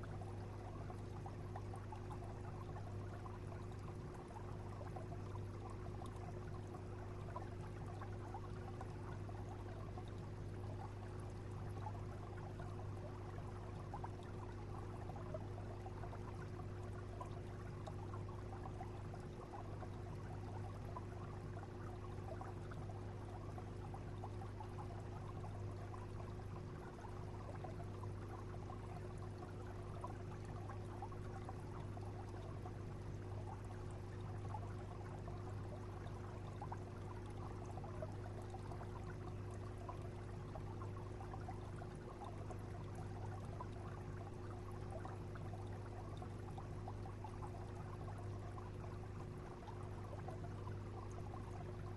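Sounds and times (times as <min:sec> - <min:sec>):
aquarium water trickling and bubbling: 0:00.0 - 0:51.9
steady low hum: 0:00.0 - 0:51.9.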